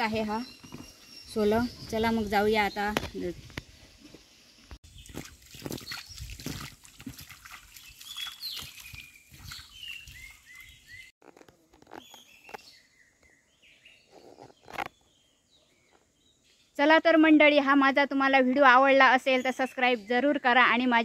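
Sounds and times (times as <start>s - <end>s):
small birds chirping: 0.0s - 17.4s, 18.6s - 21.0s.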